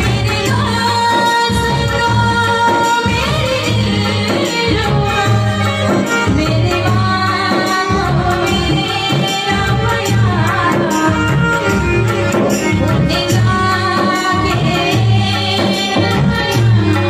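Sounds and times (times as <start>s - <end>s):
electronic drum pad beat: 0.0s - 17.0s
tabla: 0.0s - 17.0s
woman singing into a microphone: 0.0s - 17.0s.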